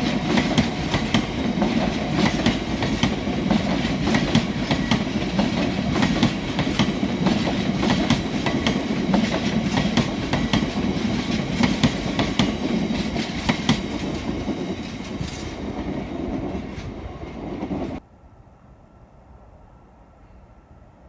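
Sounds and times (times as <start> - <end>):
train wheels clicking over rail joints: 0.0 - 18.0
freight train rumble: 0.0 - 21.0.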